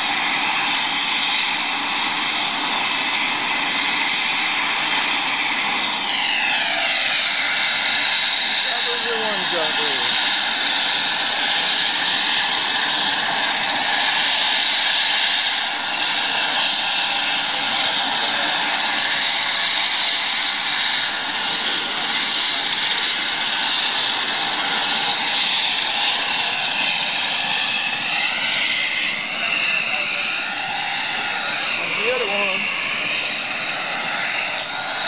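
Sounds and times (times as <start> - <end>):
helicopter turbine and rotor: 0.0 - 35.0.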